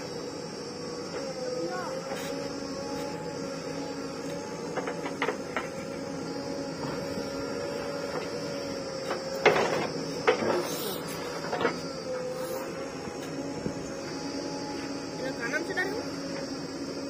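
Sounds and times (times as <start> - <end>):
backhoe engine and hydraulics whine: 0.0 - 17.0.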